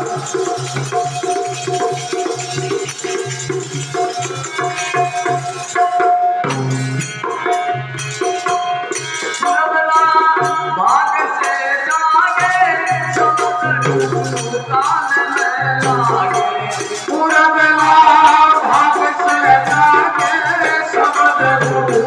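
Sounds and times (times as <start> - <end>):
dholak drum beats: 0.0 - 22.0
harmonium melody: 0.0 - 22.0
jingling hand percussion: 0.0 - 22.0.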